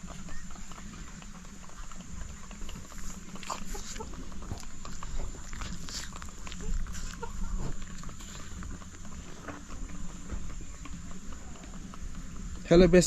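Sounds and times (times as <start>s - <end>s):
farm animals calling: 0.0s - 13.0s.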